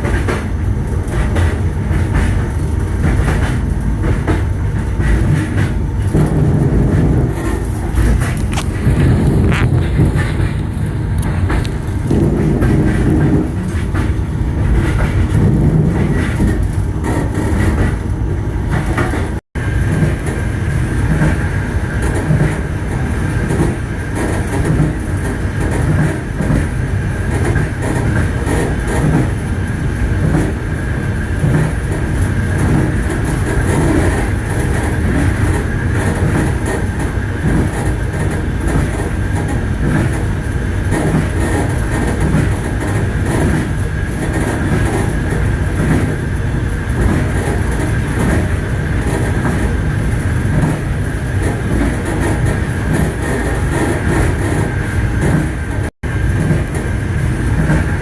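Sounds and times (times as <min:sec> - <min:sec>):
train carriage rumble: 0:00.0 - 0:58.0
train wheels clattering on rails: 0:00.0 - 0:58.0.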